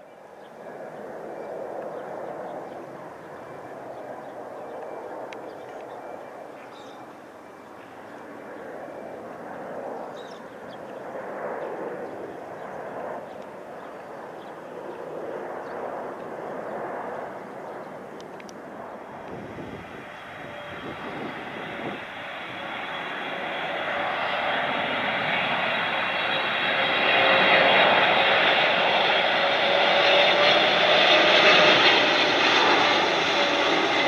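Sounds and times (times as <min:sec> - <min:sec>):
distant jet noise: 0:00.0 - 0:34.0.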